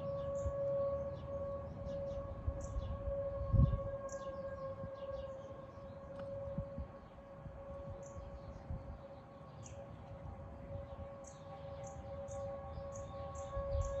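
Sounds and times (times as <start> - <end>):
tornado warning siren: 0.0 - 14.0.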